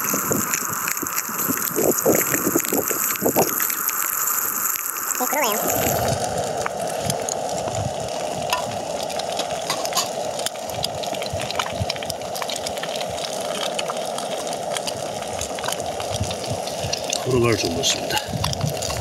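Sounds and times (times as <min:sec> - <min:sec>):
crackling pops: 0:00.0 - 0:19.0
eggs sizzling in a pan: 0:00.0 - 0:19.0.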